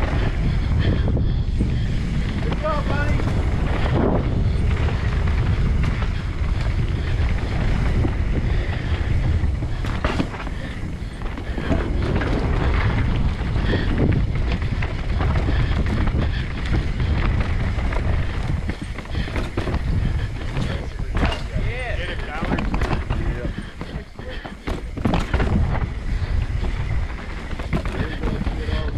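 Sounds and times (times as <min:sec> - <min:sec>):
bike knocks and rattles: 0:00.0 - 0:28.9
bike tyres running over dirt: 0:00.0 - 0:28.9
wind buffeting a microphone: 0:00.0 - 0:28.9.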